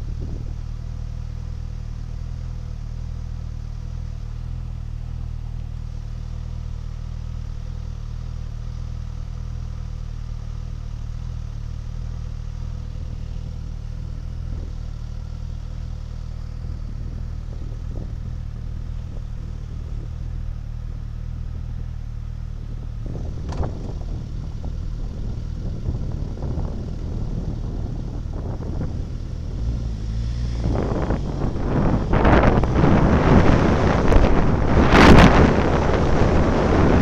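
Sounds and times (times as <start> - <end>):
road and wind noise: 0.0 - 37.0
vehicle engine humming: 0.0 - 37.0.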